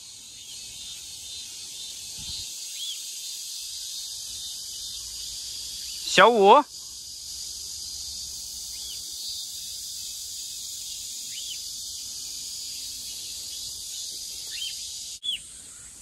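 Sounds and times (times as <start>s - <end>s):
faint bird chirps: 0.0s - 16.0s
insect chorus drone: 0.0s - 16.0s.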